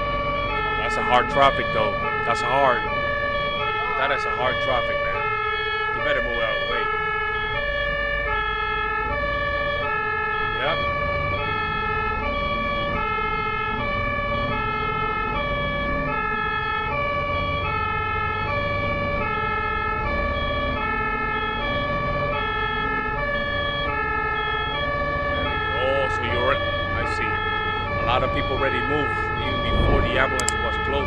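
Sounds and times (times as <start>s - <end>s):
ambulance two-tone siren: 0.0s - 31.0s
low road noise: 0.0s - 31.0s.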